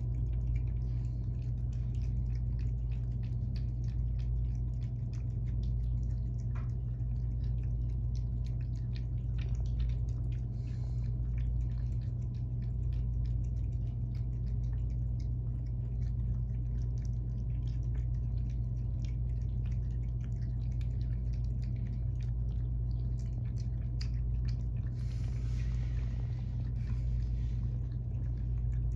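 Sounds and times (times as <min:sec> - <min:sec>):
cats chewing and licking: 0:00.0 - 0:28.9
steady low hum: 0:00.0 - 0:28.9.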